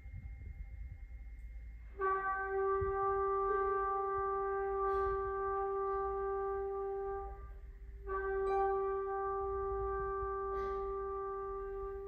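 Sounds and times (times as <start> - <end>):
long wind instrument note: 1.8 - 12.0.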